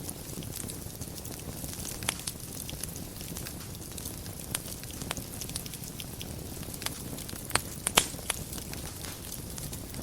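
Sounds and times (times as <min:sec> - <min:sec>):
fire crackling in fireplace: 0:00.0 - 0:10.0.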